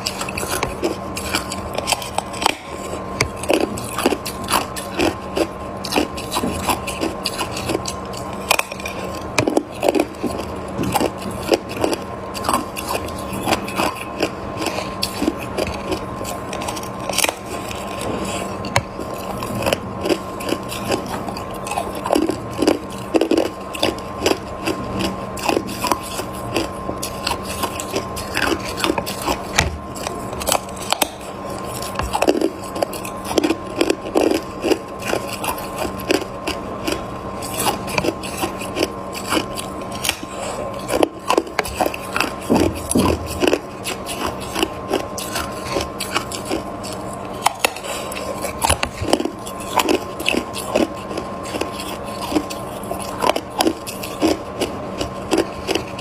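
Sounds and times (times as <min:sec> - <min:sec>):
person chewing ice: 0:00.0 - 0:56.0.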